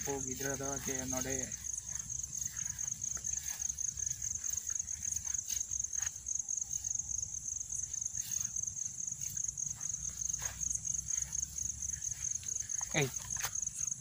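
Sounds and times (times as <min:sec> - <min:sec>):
crickets trilling: 0:00.0 - 0:14.0
footsteps through vegetation: 0:00.0 - 0:14.0.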